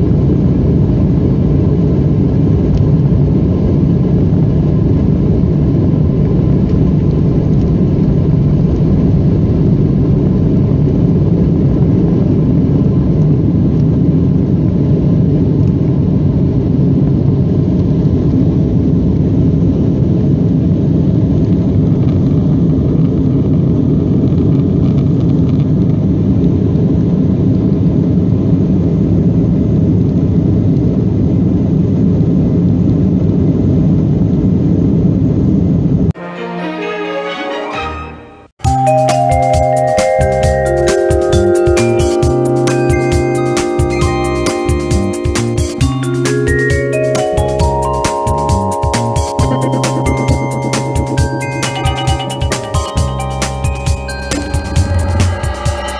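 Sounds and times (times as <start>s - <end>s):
jet engine and airflow noise: 0.0s - 36.2s, 38.7s - 55.9s.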